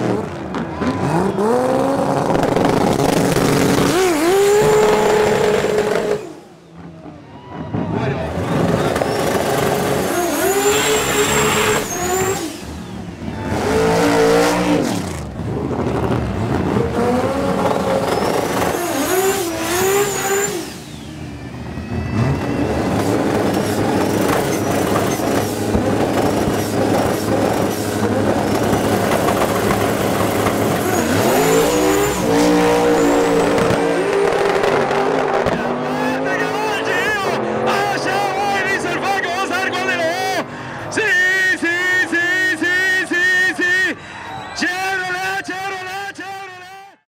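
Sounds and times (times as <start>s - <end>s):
racing car engines revving: 0.0s - 45.9s.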